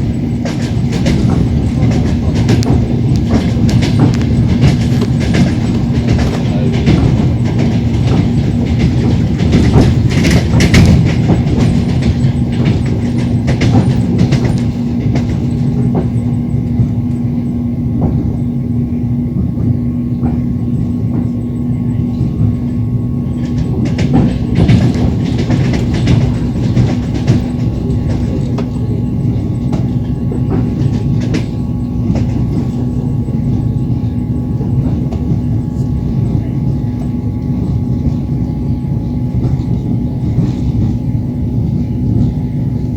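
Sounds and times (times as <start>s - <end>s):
train wheels rumbling over rail joints: 0.0s - 42.9s.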